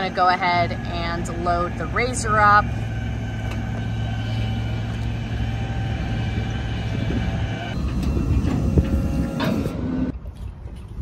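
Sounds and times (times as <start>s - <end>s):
faint steady whine: 0.0s - 10.2s
vehicle engine running: 0.0s - 10.2s.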